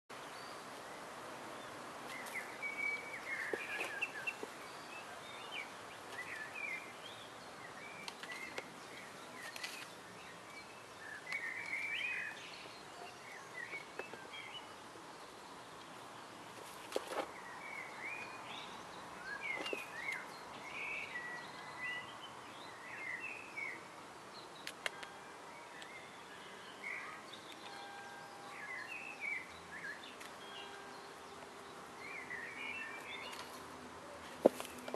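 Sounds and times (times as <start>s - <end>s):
outdoor background hiss: 0.1s - 34.9s
small birds chirping: 0.1s - 34.9s.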